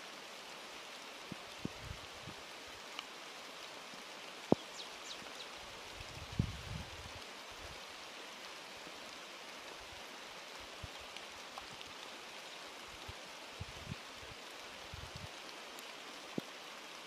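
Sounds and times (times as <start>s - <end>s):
rain falling on vegetation: 0.0s - 17.0s.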